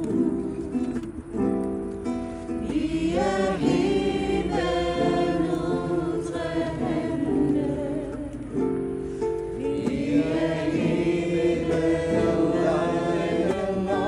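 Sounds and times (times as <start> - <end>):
group singing worship song: 2.5 - 14.0.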